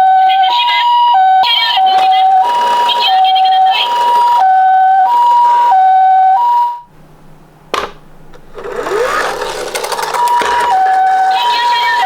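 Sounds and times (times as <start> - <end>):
toy electronic two-tone siren: 0.0 - 6.8, 8.6 - 12.0.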